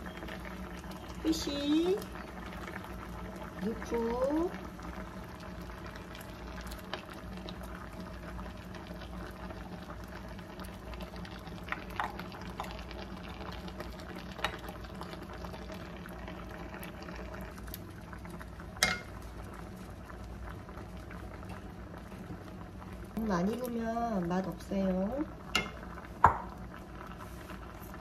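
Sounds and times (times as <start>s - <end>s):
water boiling in frying pan: 0.0s - 28.0s.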